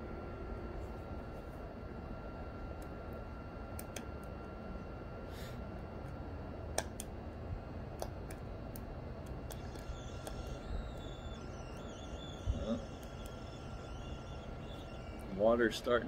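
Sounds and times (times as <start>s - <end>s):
faint high whine: 0.0s - 16.0s
stove fan whirring: 0.0s - 16.0s.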